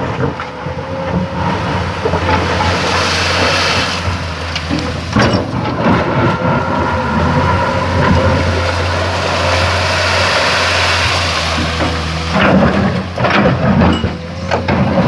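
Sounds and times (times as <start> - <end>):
excavator diesel engine running: 0.0 - 15.0
steady whine: 1.1 - 14.2.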